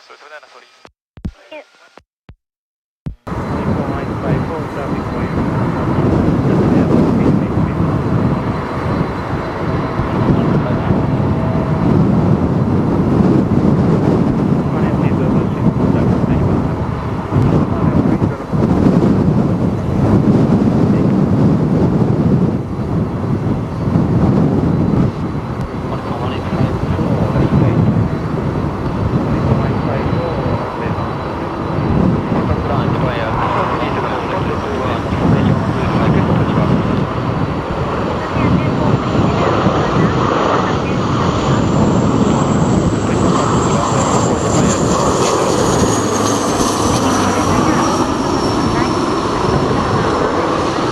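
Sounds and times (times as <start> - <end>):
high jet whine: 3.1 - 50.9
gusty wind buffeting microphone: 3.3 - 50.9
jet airliner engine noise: 3.3 - 50.9.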